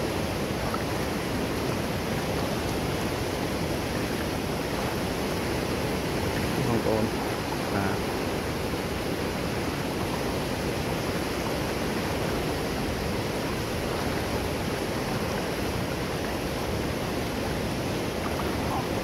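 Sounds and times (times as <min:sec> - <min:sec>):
water rushing over dam spillway: 0:00.0 - 0:19.0.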